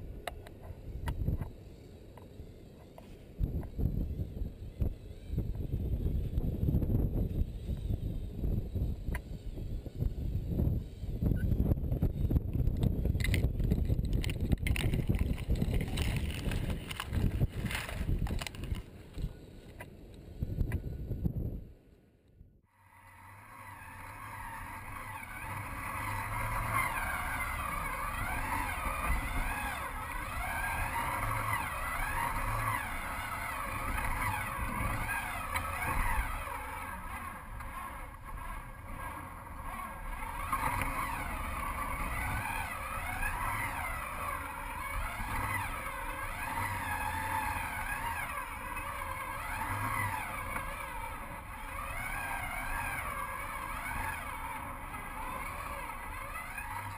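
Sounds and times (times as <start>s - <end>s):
toy electric motor and gears whining: 0.0s - 21.2s, 22.7s - 56.9s.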